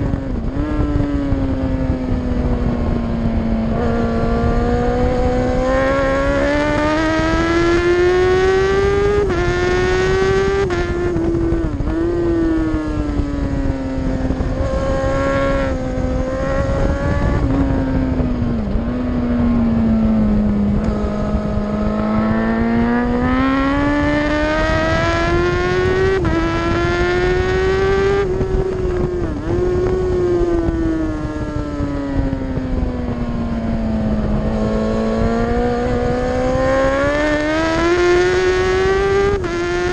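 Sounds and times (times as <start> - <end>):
motorcycle engine at high revs: 0.0 - 39.9
wind rush on microphone: 0.0 - 39.9.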